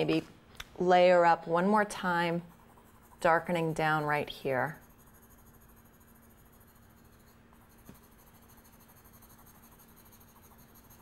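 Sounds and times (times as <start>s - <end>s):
low steady hum: 0.0s - 11.0s
pencil strokes on paper: 1.8s - 11.0s.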